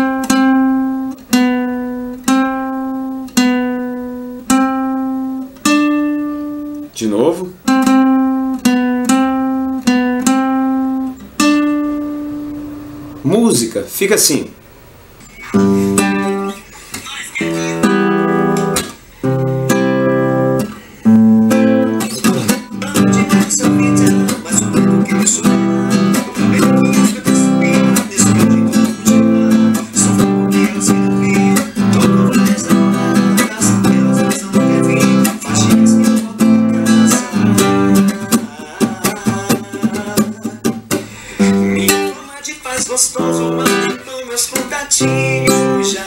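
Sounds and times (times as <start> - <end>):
acoustic guitar strumming chords: 0.0 - 46.0.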